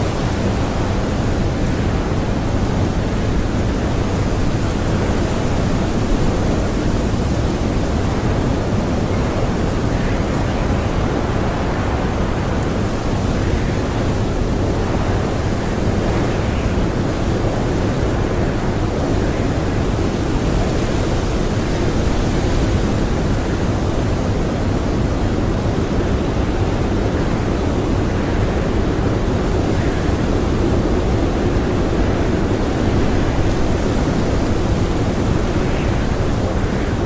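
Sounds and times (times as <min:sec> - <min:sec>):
blizzard wind blowing hard: 0:00.0 - 0:37.0.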